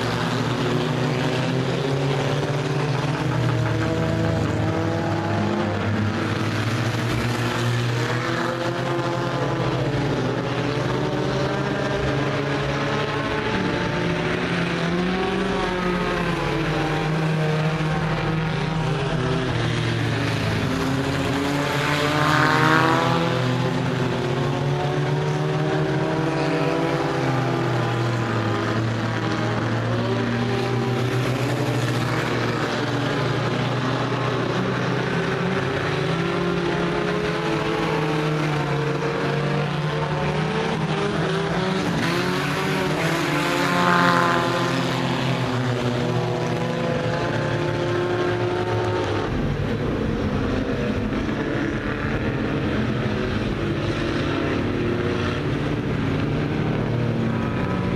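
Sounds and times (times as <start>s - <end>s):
race car engines passing: 0.0s - 57.9s.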